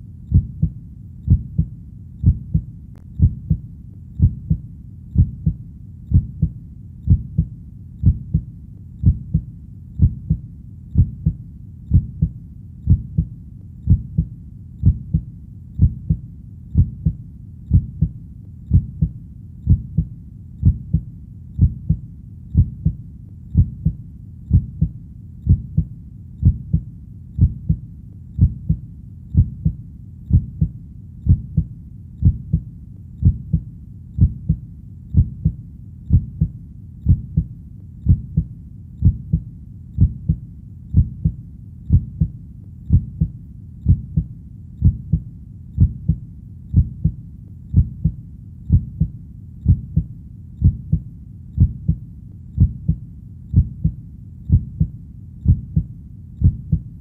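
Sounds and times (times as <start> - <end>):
heartbeat double thumps: 0.3 - 27.8, 28.4 - 52.0, 52.6 - 57.0.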